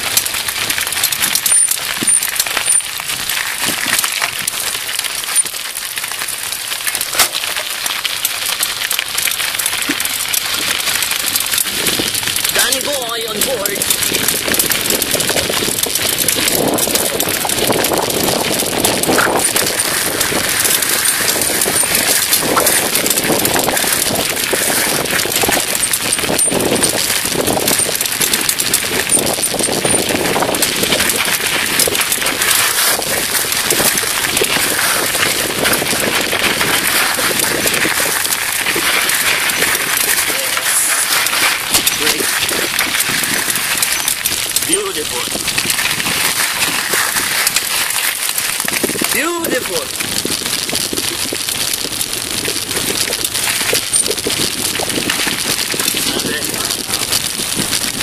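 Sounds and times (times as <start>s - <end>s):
bicycle frame rattling: 0.0s - 58.0s
bicycle tyres crunching on gravel: 0.0s - 58.0s.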